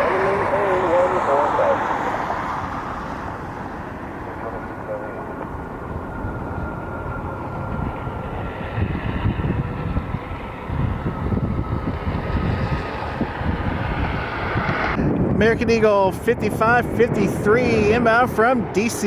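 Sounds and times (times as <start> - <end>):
distant jet engines rumbling: 0.0 - 19.0
wind buffeting microphone: 0.0 - 19.0.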